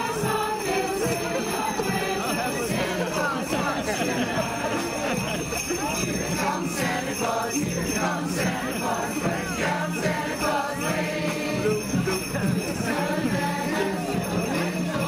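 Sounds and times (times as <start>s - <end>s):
choir singing a carol: 0.0s - 15.0s
sleigh bells shaken: 0.0s - 15.0s.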